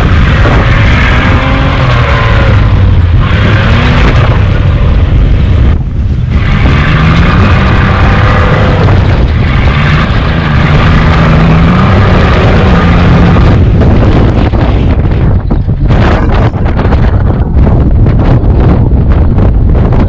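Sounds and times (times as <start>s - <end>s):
off-road vehicle engine revving: 0.0s - 17.2s.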